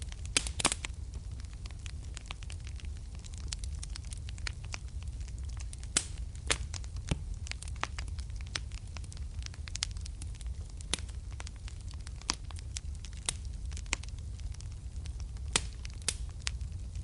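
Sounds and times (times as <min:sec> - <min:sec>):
loud snaps of fire: 0:00.0 - 0:17.0
wood fire burning: 0:00.0 - 0:17.0.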